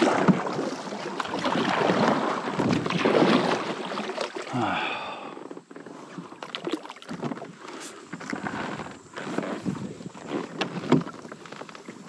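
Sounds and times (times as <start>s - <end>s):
kayak paddle splashing water: 0.0s - 12.0s.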